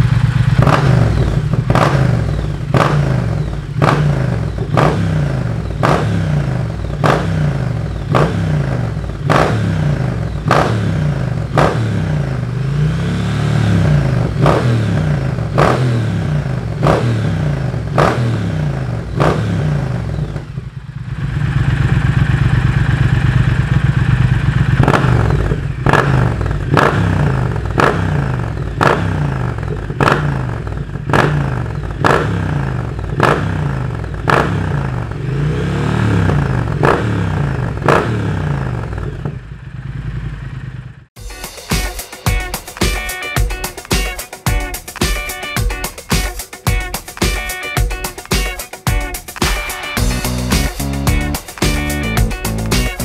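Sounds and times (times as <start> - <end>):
motorcycle engine revving with cracks: 0.0 - 41.2, 45.5 - 53.0.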